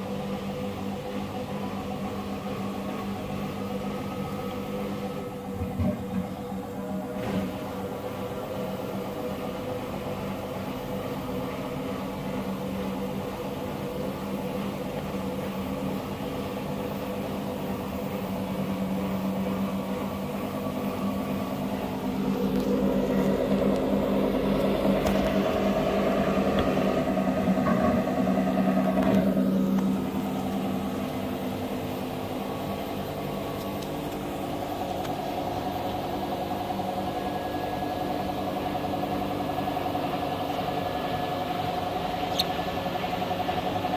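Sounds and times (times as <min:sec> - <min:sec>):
washing machine humming: 0:00.0 - 0:43.9.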